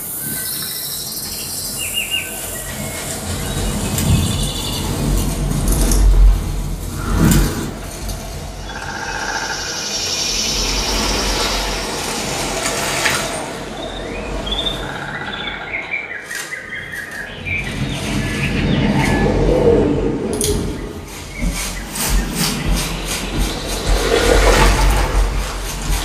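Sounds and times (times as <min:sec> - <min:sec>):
low rumbling: 0:02.4 - 0:15.6, 0:17.5 - 0:26.0.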